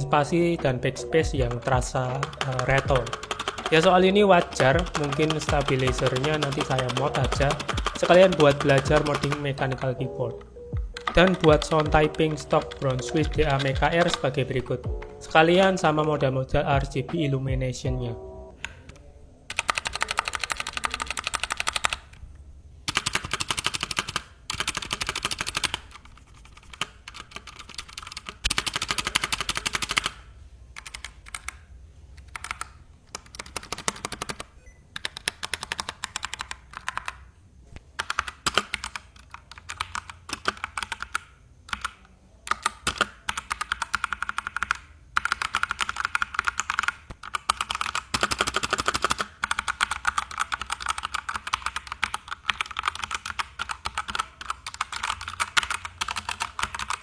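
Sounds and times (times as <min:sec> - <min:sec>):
mechanical keyboard typing: 0:01.1 - 0:16.4, 0:18.6 - 0:22.2, 0:22.9 - 0:30.2, 0:30.8 - 0:31.6, 0:32.2 - 0:37.3, 0:38.0 - 0:57.0.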